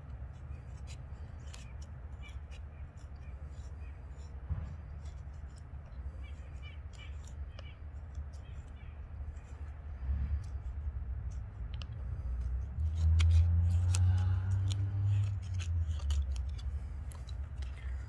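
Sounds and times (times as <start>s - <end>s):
knife scraping wood: 0.0s - 18.0s.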